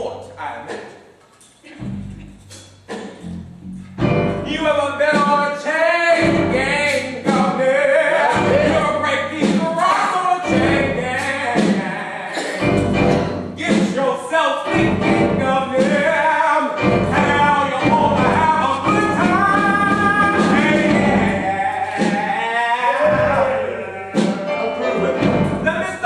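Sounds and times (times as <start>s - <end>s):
musical accompaniment: 1.7s - 26.0s
chorus singing: 4.5s - 26.0s.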